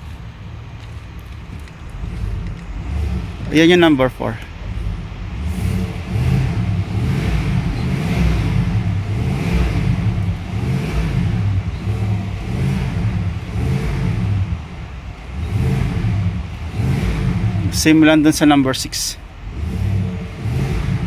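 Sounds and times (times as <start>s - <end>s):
engine revving in throttle blips: 0.0s - 21.0s.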